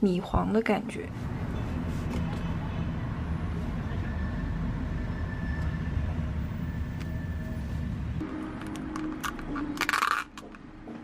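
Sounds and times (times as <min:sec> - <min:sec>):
moving vehicle rumble: 0:01.0 - 0:11.0.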